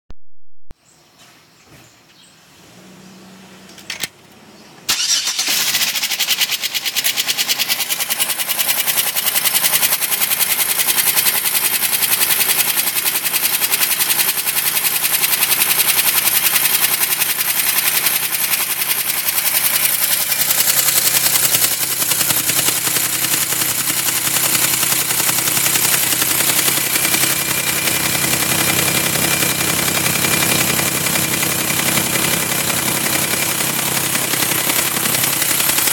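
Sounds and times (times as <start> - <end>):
car engine starting and running: 2.6 - 35.9
rapid even engine knock: 6.0 - 35.9.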